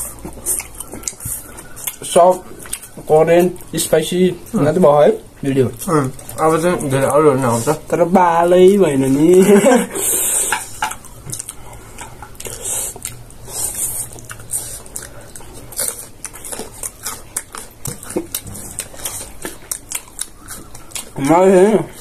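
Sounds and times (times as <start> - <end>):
wet chewing: 0.0 - 22.0.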